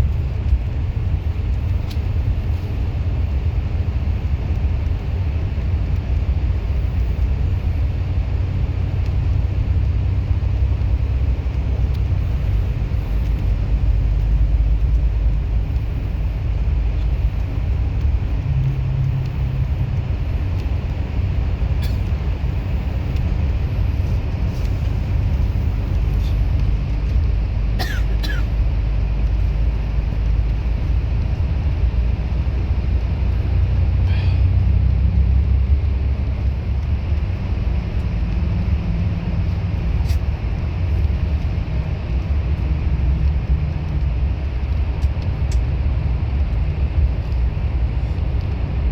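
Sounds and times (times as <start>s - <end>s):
bus engine and road rumble: 0.0s - 48.9s
deep engine hum: 0.0s - 48.9s.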